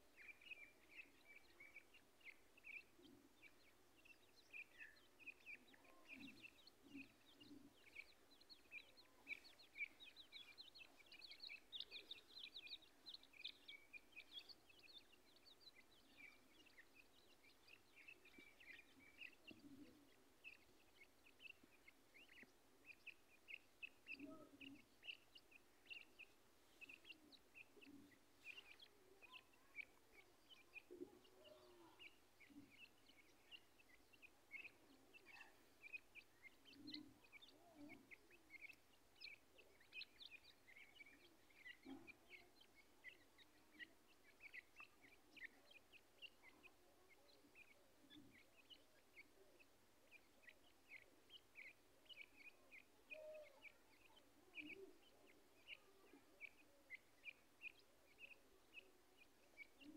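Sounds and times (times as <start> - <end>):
partridge chicks peeping: 0.0 - 59.9.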